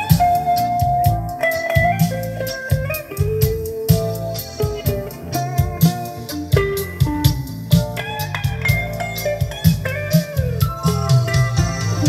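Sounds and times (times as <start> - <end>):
recorded music through loudspeakers: 0.0 - 12.0.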